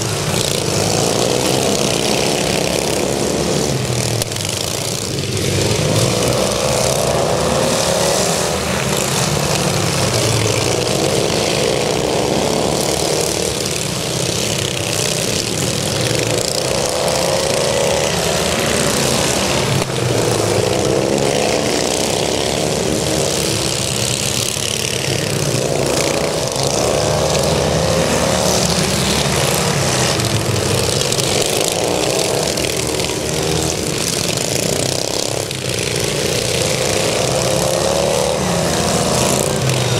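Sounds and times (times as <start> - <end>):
racing lawn mower engines: 0.0 - 39.9.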